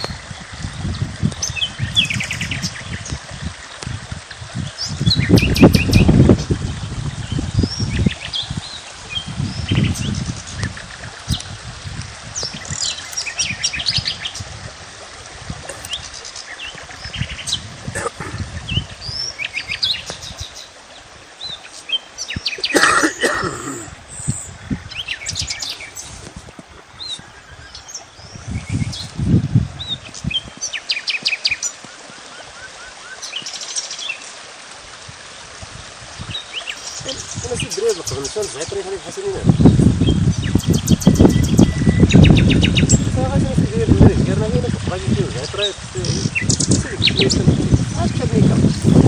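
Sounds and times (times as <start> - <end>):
small birds chirping and trilling: 0.0 - 11.5, 12.3 - 14.6, 15.7 - 22.9, 23.8 - 34.3, 36.1 - 49.0.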